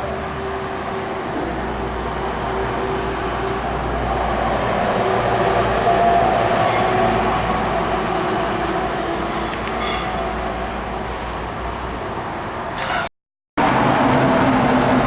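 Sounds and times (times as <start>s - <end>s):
heavy truck passing: 0.0s - 12.8s, 13.6s - 15.0s.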